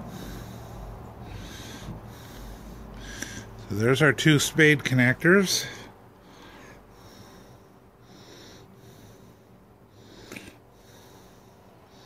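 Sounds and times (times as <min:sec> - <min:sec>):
soft breathing through nose: 0:00.0 - 0:03.7, 0:05.6 - 0:12.0.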